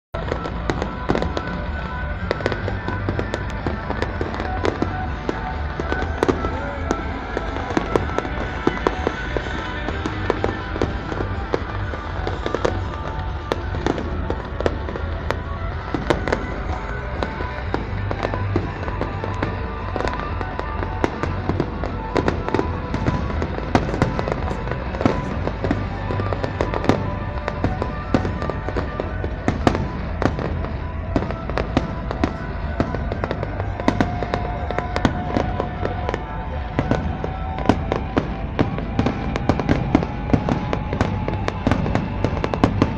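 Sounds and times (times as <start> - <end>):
fireworks booming and crackling: 0.2 - 42.9
music: 0.2 - 42.9.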